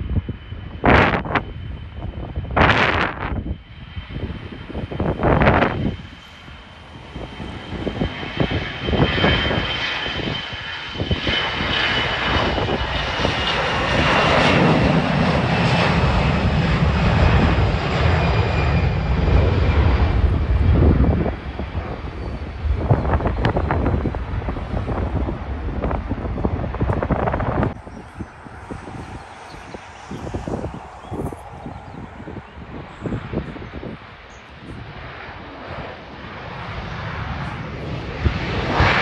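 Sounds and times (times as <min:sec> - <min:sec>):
high jet engine whine: 0:00.0 - 0:39.0
jet airliner taking off: 0:00.0 - 0:39.0.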